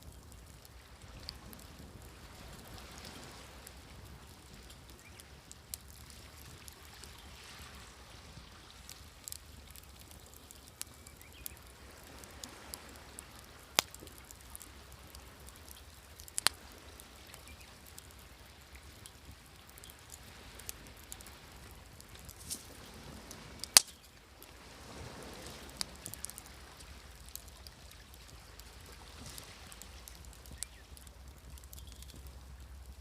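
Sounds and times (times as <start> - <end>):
wood fire crackling and popping: 0.0 - 33.0
sea waves: 0.5 - 10.4, 11.1 - 33.0.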